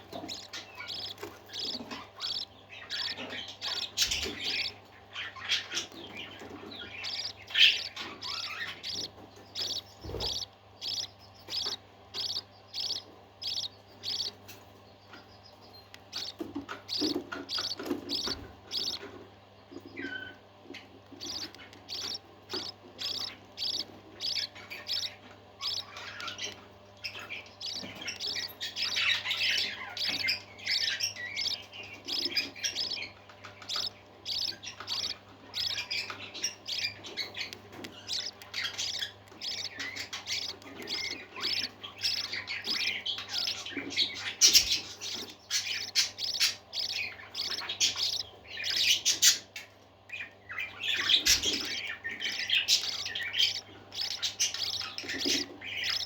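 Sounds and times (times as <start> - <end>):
faint low hum: 0.0 - 56.0
parakeets chattering: 0.0 - 56.0.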